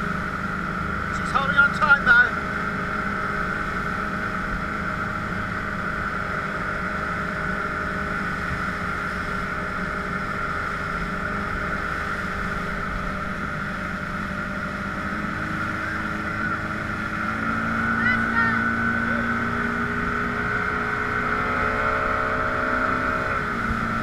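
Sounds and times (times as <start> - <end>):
outboard motor running: 0.0 - 24.0
water rushing past hull: 0.0 - 24.0.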